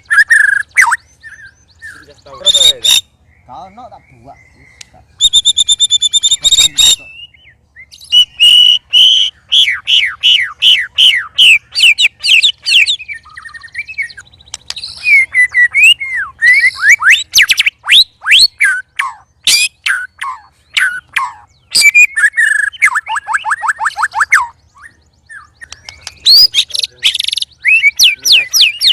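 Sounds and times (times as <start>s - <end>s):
songbird whistling: 0.0s - 28.9s.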